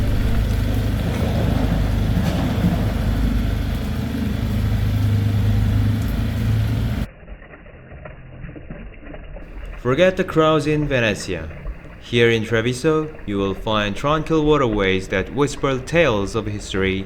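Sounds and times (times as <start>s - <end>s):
engine humming: 0.0s - 7.1s, 9.4s - 17.0s.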